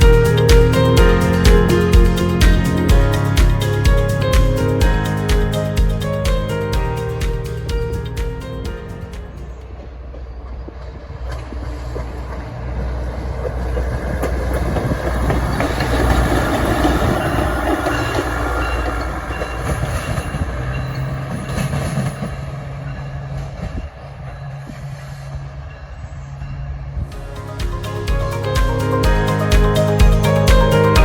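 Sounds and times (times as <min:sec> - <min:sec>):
wheels clicking over rail joints: 0:00.0 - 0:26.1
train engine hum: 0:00.0 - 0:31.0.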